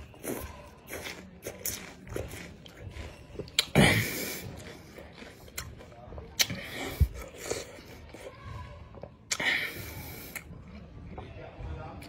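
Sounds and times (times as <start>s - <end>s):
chewing with wet mouth smacks: 0.0s - 11.3s.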